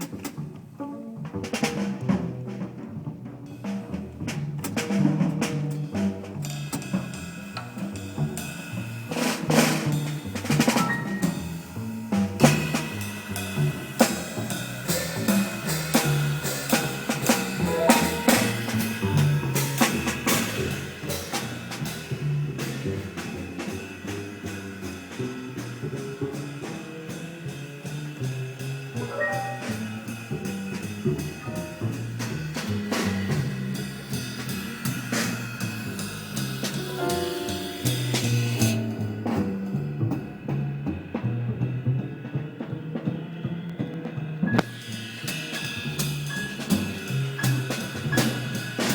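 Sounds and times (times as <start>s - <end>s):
drum kit with cymbals: 0.0s - 0.7s, 1.3s - 48.9s
double bass: 0.0s - 48.9s
jazz piano: 0.0s - 48.9s.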